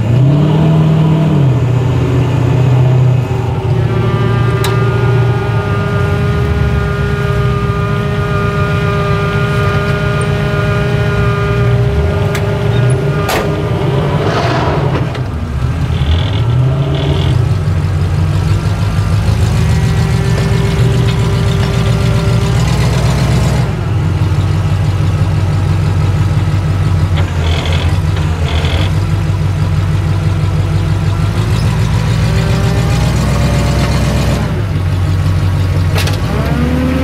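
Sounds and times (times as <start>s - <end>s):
truck engine idling with whine: 0.0s - 37.0s.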